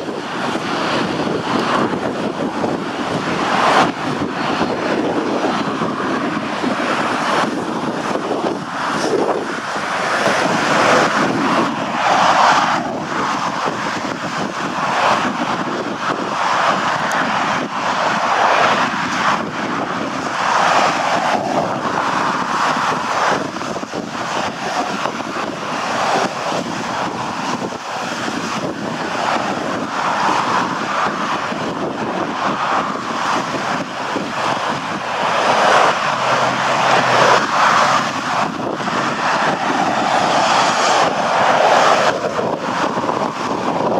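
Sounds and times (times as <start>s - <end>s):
jet airliner engines rushing: 0.0s - 43.9s
wind buffeting microphone: 0.0s - 43.9s.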